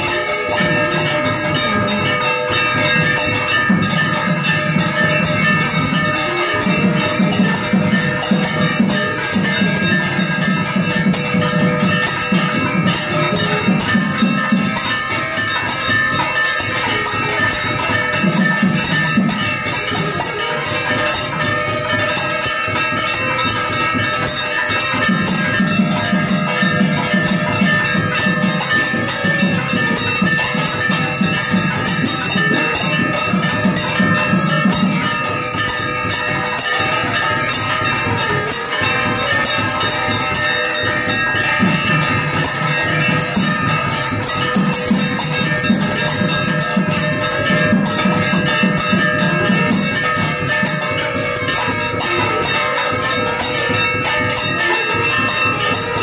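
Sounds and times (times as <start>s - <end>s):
temple bells ringing: 0.0s - 56.0s.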